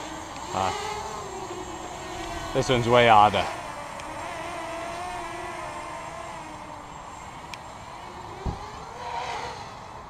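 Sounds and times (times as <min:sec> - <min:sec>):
quadcopter propellers buzzing: 0:00.0 - 0:10.0.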